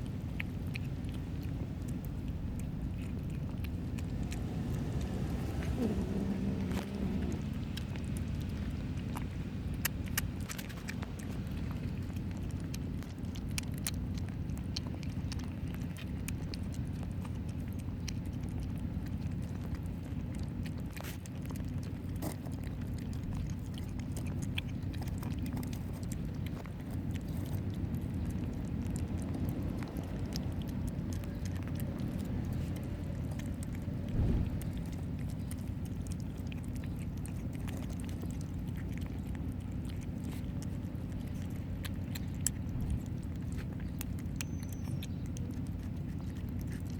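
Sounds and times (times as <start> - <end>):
kittens chewing wet food: 0.0 - 46.9
low background rumble: 0.0 - 46.9.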